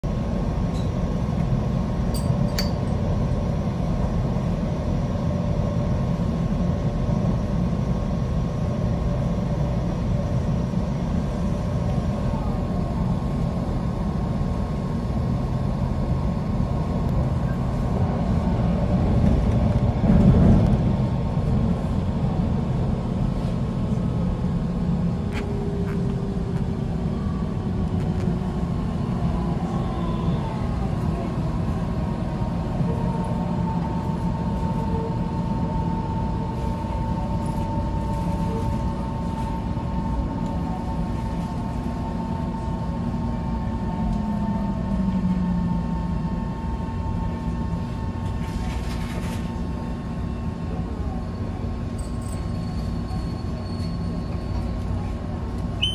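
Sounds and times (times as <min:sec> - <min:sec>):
train wheels rumbling on rail: 0:00.0 - 0:55.9
faint train motor whine: 0:00.1 - 0:55.9.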